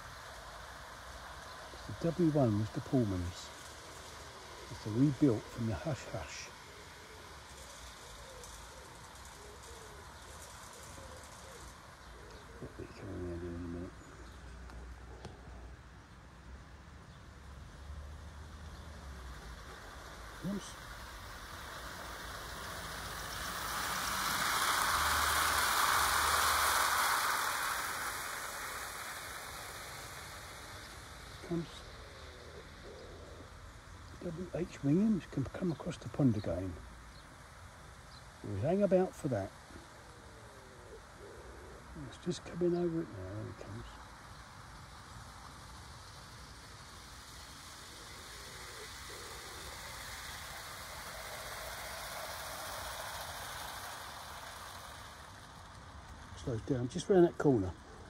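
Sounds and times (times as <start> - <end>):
model train wheels rattling: 0.0 - 12.5, 18.5 - 36.8, 42.1 - 58.0.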